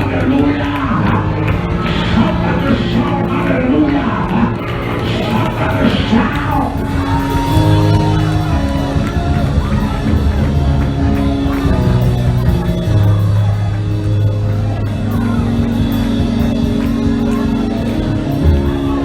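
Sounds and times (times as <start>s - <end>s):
church praise band music: 0.0s - 19.0s
congregation shouting and singing: 0.0s - 19.0s.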